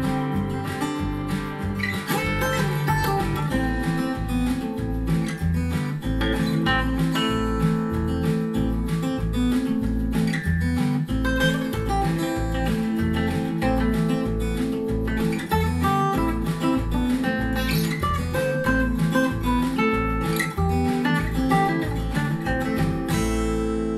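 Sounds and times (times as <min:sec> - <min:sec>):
steady bass line: 0:00.0 - 0:23.9
strummed acoustic guitar: 0:00.0 - 0:23.9.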